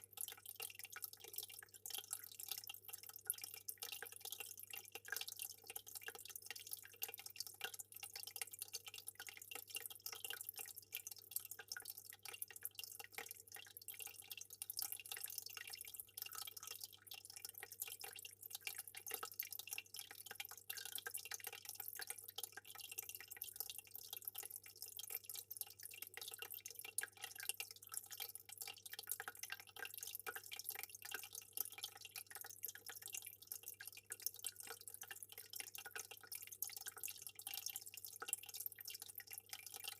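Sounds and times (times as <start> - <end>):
aquarium water trickling and dripping: 0.0 - 39.9.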